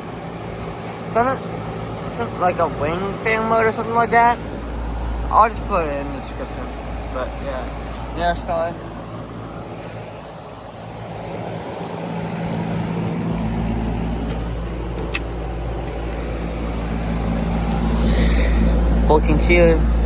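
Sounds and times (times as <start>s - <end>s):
compressor humming: 0.0s - 20.0s
condenser fan rushing: 0.0s - 20.0s.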